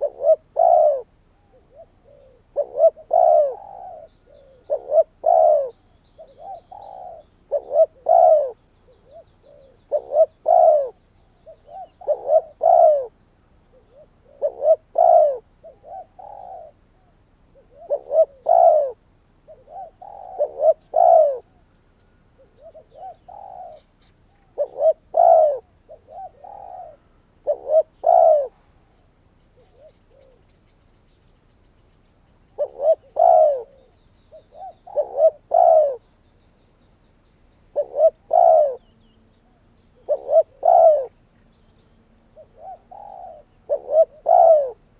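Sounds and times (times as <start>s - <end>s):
dove cooing: 0.0s - 21.7s, 22.3s - 30.6s, 32.5s - 36.1s, 37.7s - 44.9s.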